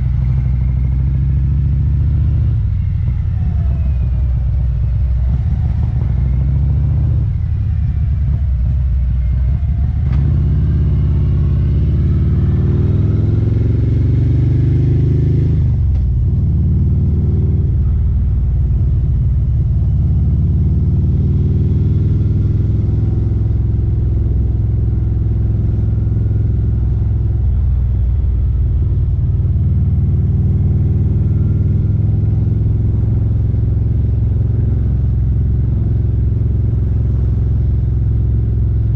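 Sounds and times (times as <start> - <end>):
motorcycle engine on the road: 0.0 - 38.9.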